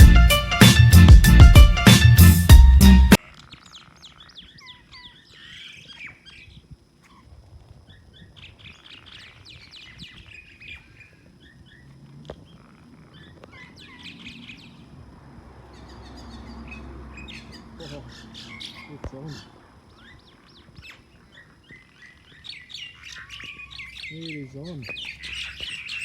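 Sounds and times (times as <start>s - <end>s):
small birds chirping: 3.2s - 26.0s.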